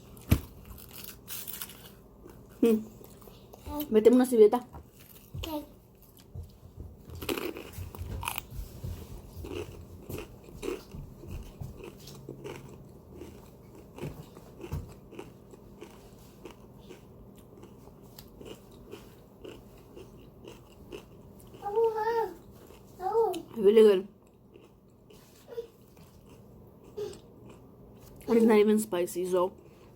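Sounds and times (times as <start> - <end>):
crunchy food chewing: 0.1 - 3.9, 7.0 - 23.6, 24.2 - 28.3.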